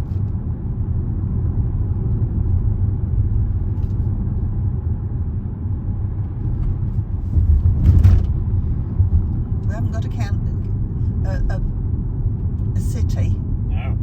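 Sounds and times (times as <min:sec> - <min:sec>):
car cabin road rumble and engine: 0:00.0 - 0:14.0.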